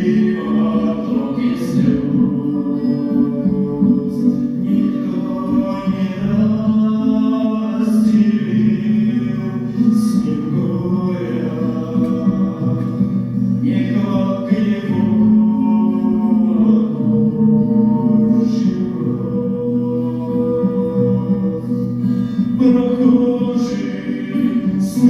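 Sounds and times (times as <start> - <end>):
voices singing: 0.0 - 25.0.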